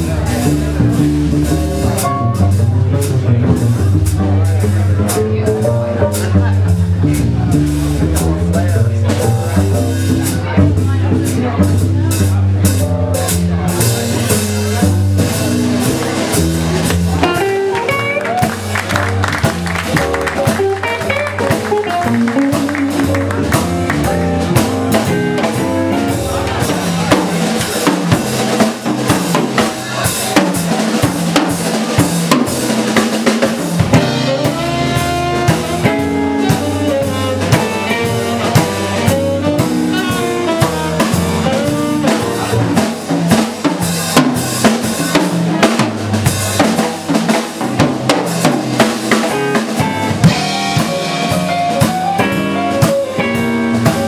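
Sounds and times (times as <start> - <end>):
drum kit beat: 0.0 - 54.0
live band playing: 0.0 - 54.0.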